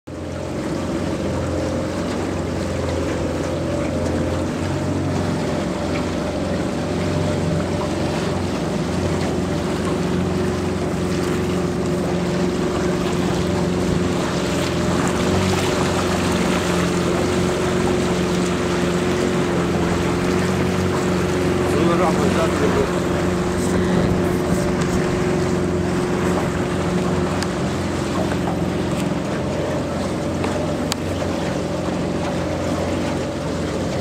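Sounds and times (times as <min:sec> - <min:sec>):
boat motor humming: 0:00.1 - 0:34.0
water rushing past hull: 0:00.1 - 0:34.0.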